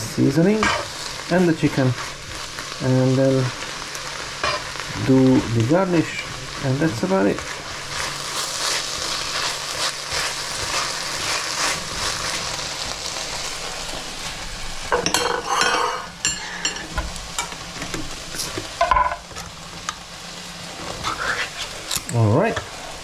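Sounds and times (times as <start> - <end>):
onions sizzling in a pan: 0.0 - 23.0.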